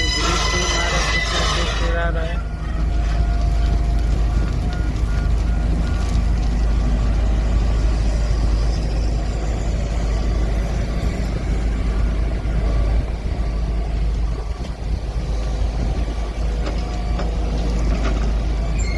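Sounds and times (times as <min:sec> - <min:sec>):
diesel engine rumbling: 0:00.0 - 0:18.9.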